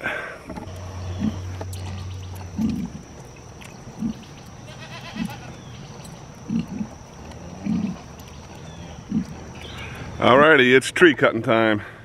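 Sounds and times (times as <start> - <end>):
pig grunting: 0.7 - 10.5.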